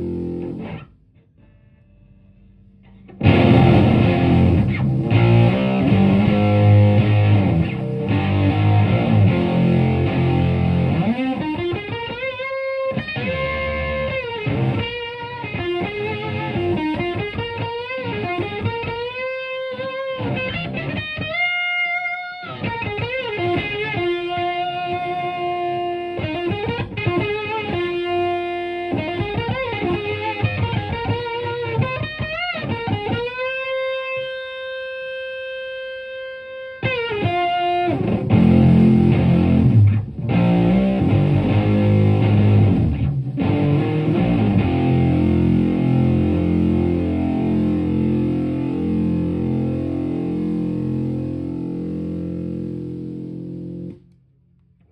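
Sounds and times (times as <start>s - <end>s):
distorted electric guitar lead: 0.0s - 54.1s.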